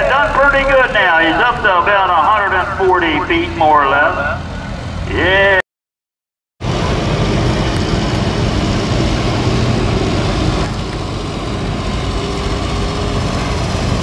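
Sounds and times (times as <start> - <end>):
tractor engines running: 0.0 - 5.6, 6.6 - 14.0.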